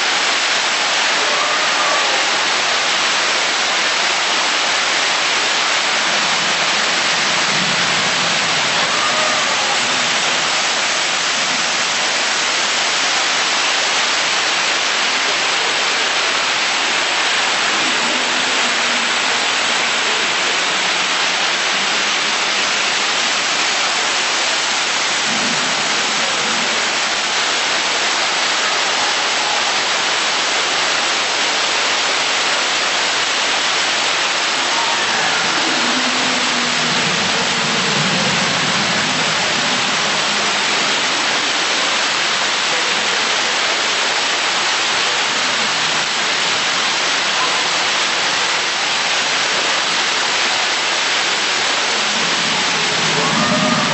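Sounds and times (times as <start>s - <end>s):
water pouring and splashing: 0.0s - 53.9s.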